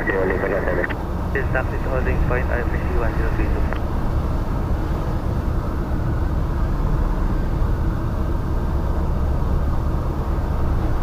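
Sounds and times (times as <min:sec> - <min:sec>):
light aircraft cabin drone: 0:00.0 - 0:11.0.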